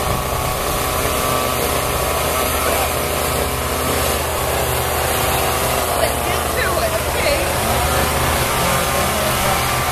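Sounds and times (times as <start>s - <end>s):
loud machinery din: 0.0s - 9.9s
small engine running: 0.0s - 9.9s.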